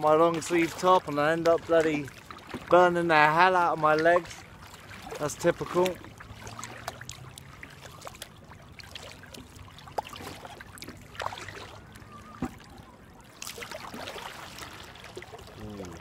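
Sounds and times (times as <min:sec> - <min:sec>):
paddle water splashing: 0:00.0 - 0:16.0
rush of water: 0:00.0 - 0:16.0.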